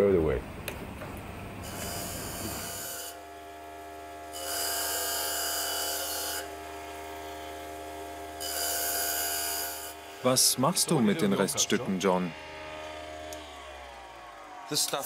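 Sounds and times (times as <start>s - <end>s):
grinding machine humming: 1.6s - 15.0s.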